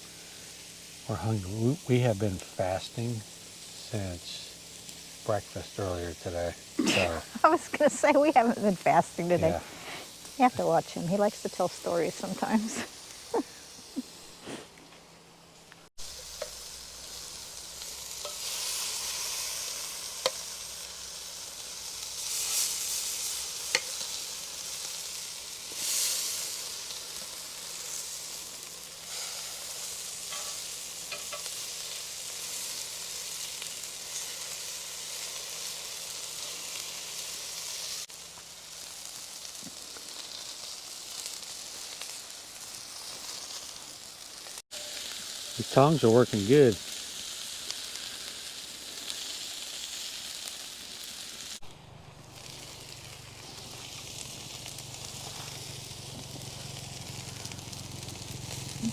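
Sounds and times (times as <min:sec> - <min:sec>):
food sizzling on a griddle: 0:00.0 - 0:58.9.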